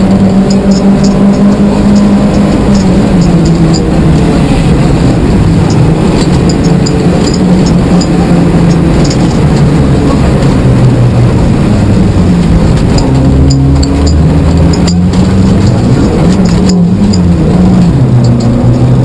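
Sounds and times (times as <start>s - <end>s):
car engine under hard driving: 0.0s - 19.0s
loud road noise: 0.0s - 19.0s.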